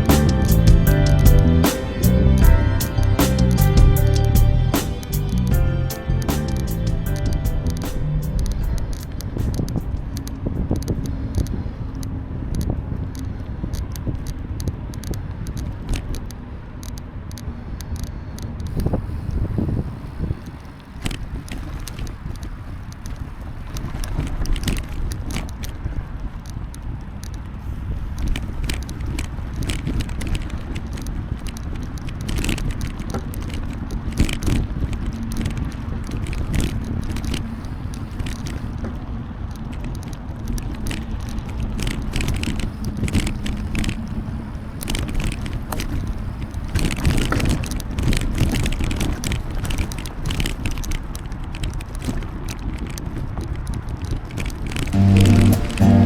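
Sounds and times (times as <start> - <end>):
bicycle tyres on path: 0.0 - 56.0
bike rattles and clicks: 0.0 - 56.0
wind rumble on microphone: 0.0 - 56.0.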